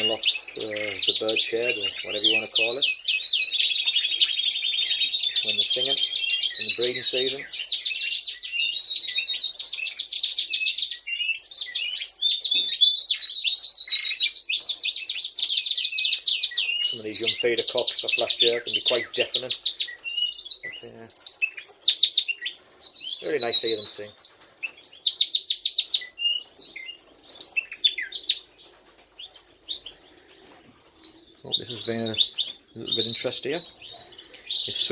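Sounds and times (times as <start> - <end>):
canaries singing trills: 0.0 - 34.9.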